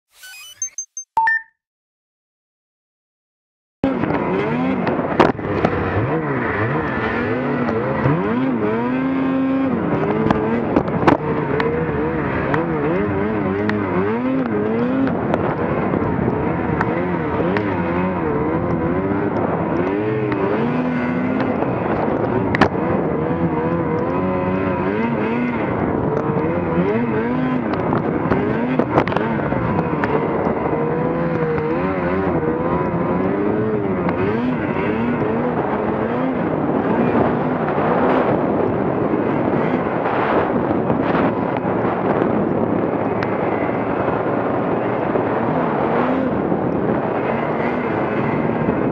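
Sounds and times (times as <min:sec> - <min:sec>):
snowmobile engine revving: 0:03.8 - 0:48.9.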